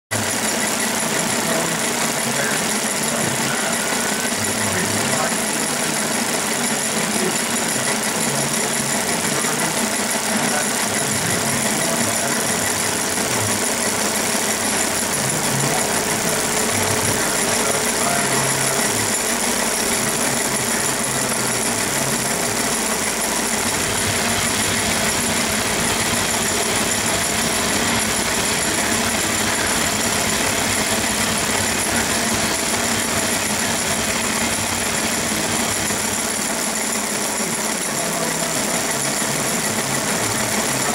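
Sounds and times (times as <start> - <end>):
magneto test stand running: 0.1 - 40.9.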